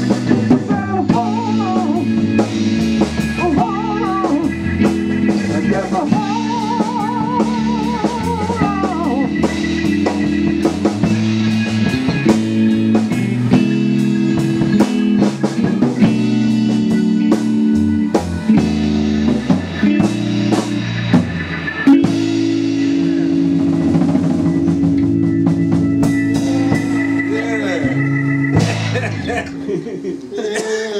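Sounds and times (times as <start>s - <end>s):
live band playing blues-soul: 0.0s - 30.2s
drum kit: 0.0s - 30.8s
electric guitar: 0.0s - 30.8s.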